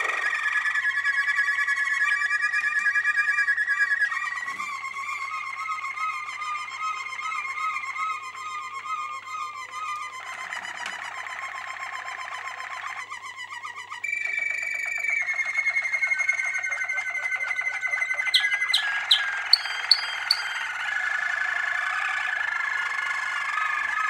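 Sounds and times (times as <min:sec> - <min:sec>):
canary song trills: 0:00.0 - 0:24.0.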